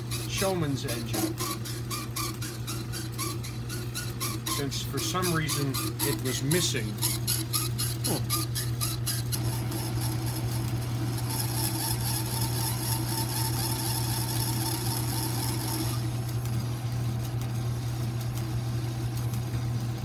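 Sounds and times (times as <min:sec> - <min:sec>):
lathe motor hum: 0:00.0 - 0:18.7.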